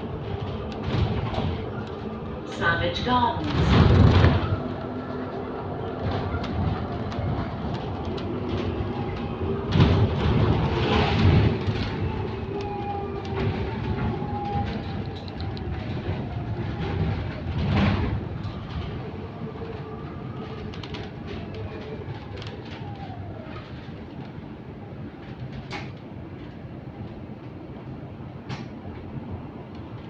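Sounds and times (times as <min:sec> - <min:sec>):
bus road rumble: 0:00.0 - 0:30.0
faint howling tones: 0:00.0 - 0:30.0.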